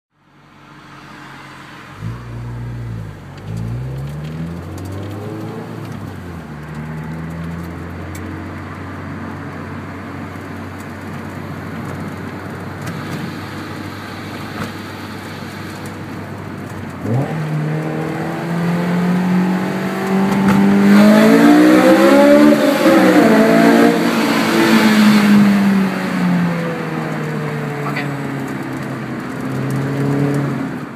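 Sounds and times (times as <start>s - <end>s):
car engine revving in a tunnel: 0.3s - 30.9s.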